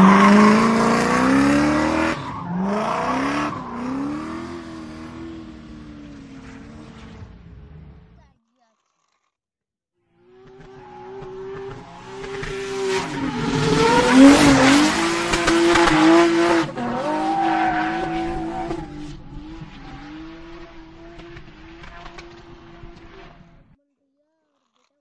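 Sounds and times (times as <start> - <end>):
racing car engine: 0.0 - 8.2, 10.2 - 23.8.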